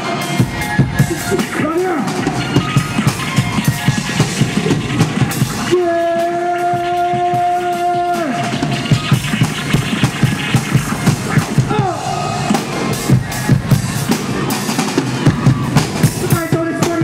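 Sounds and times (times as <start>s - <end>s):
live hip-hop music with steady beat: 0.0s - 17.0s.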